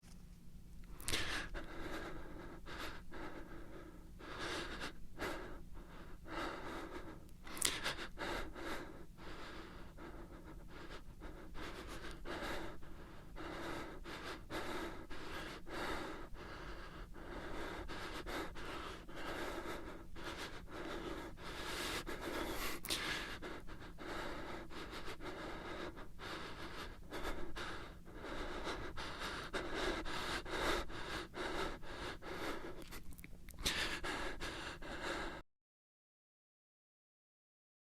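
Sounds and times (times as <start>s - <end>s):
man panting and gasping: 1.0s - 35.4s.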